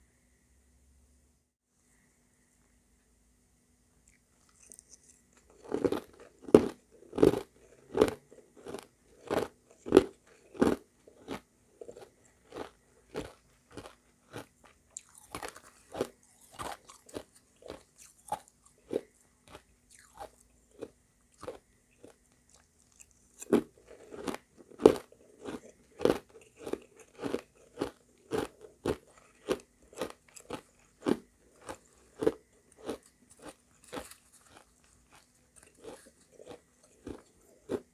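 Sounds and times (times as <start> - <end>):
person chewing crunchy ice: 4.1 - 37.9.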